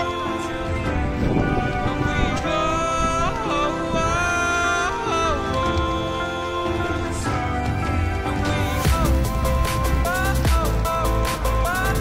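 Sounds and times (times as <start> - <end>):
low musical accompaniment: 0.0 - 12.0.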